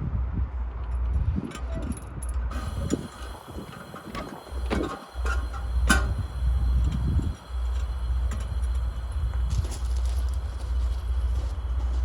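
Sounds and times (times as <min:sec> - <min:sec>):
low rumble of railway cars: 0:00.0 - 0:12.0
railway cars knocking and clanking: 0:00.9 - 0:12.0.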